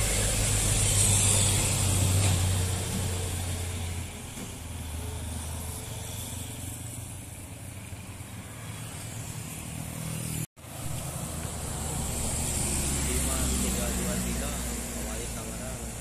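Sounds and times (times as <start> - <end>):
engine hum of trucks and bus: 0.0 - 16.0
motorcycle passing: 0.0 - 16.0.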